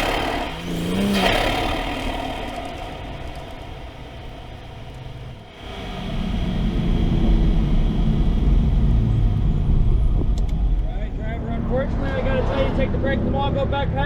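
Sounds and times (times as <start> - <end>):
car engine from inside cabin: 0.0 - 12.2.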